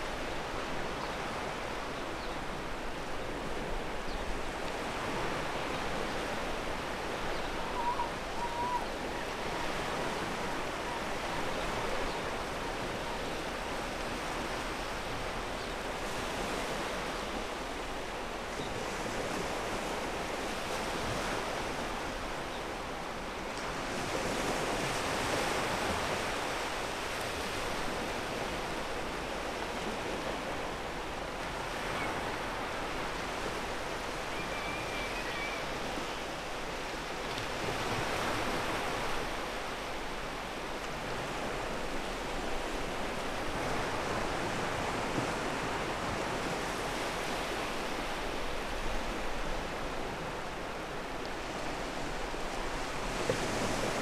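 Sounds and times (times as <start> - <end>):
waves on a pebble beach: 0.0 - 54.0.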